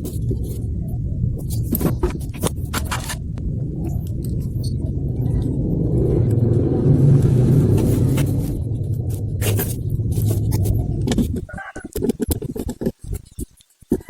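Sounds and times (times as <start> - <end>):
small engine rumbling: 0.0 - 12.0.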